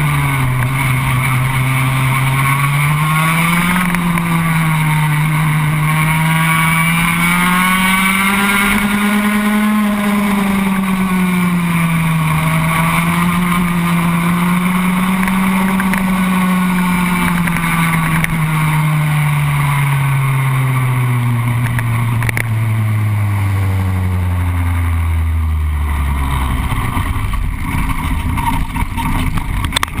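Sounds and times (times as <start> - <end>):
kart engine at speed: 0.0 - 30.0.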